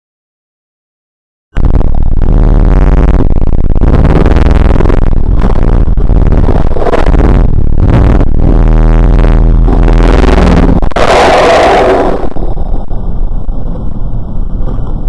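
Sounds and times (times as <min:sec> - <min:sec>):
distorted droning rumble: 0:01.6 - 0:15.0.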